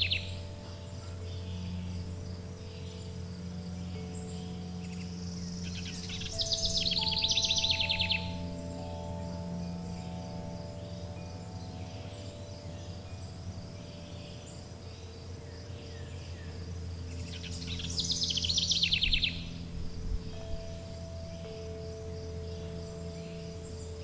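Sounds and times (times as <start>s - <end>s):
held low musical tones: 0.0s - 24.0s
insects chirring: 0.0s - 24.0s
songbird trilling: 0.0s - 24.0s.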